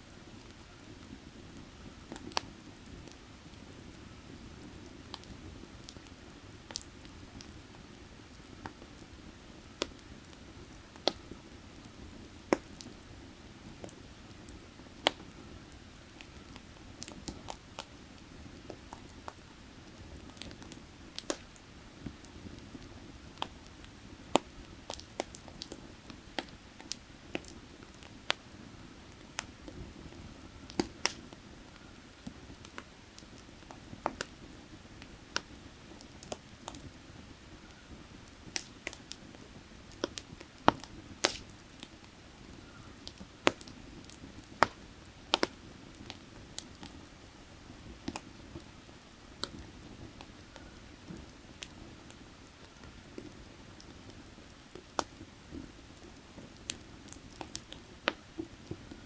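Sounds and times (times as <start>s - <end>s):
firewood crackling and popping: 0.1s - 59.0s.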